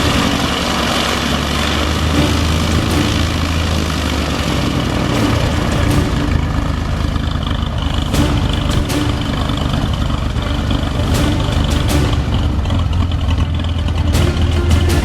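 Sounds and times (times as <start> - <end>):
propeller aircraft engine idling: 0.0 - 14.9.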